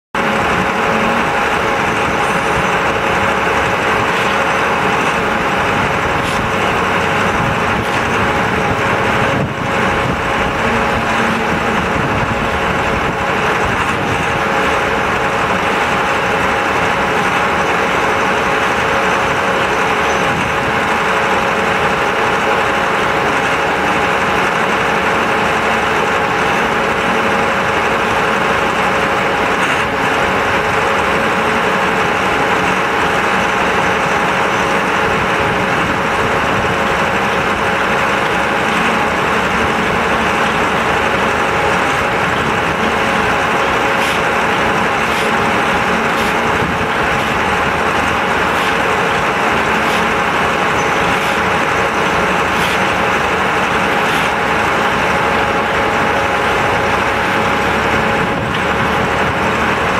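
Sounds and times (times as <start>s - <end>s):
wheel loader engine running: 0.0s - 59.9s
concrete pump machine din: 0.2s - 59.9s.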